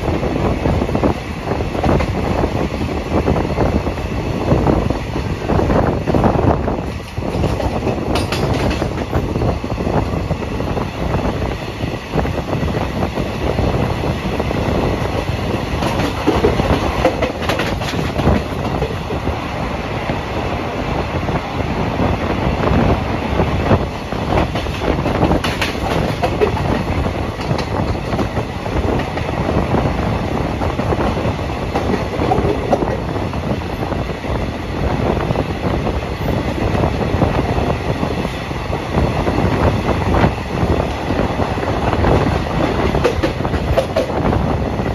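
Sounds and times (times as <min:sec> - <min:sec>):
clickety-clack over rail joints: 0:00.0 - 0:20.2, 0:22.5 - 0:44.9
train wheels rumbling on rails: 0:00.0 - 0:44.9.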